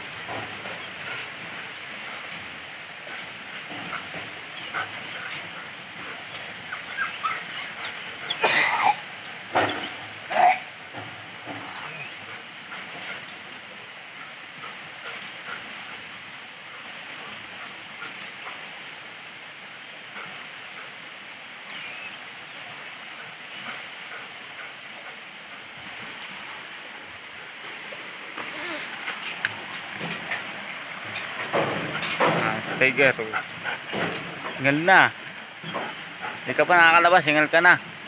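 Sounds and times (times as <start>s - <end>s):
dog panting: 0.2s - 8.4s, 11.4s - 18.8s, 21.9s - 36.8s.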